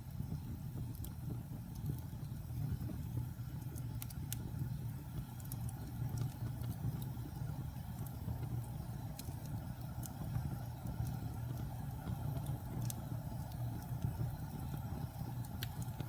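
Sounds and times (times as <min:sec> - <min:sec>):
wood fire rumbling and crackling: 0:00.0 - 0:16.0.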